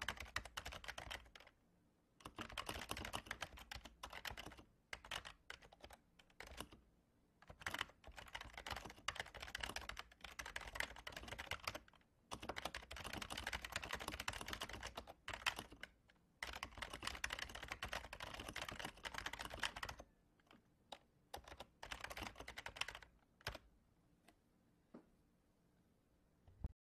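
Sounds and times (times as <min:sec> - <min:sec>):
typing on computer keyboard: 0:00.0 - 0:01.5, 0:02.2 - 0:06.8, 0:07.4 - 0:23.6.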